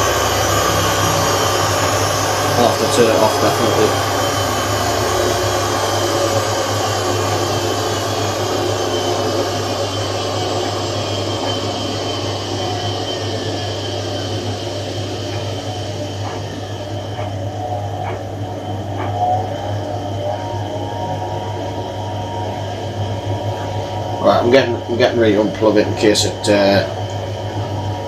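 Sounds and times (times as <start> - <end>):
washing machine motor whine: 0.0 - 28.0.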